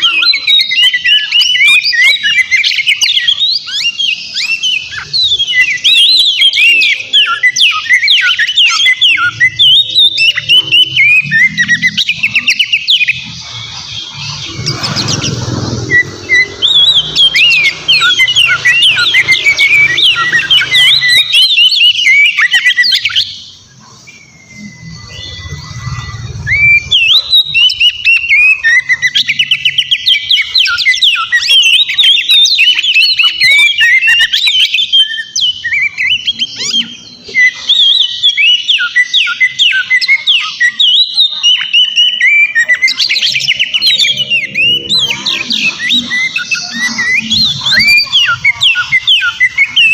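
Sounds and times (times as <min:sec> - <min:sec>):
bird singing chirps and whistles: 0:00.0 - 0:49.9.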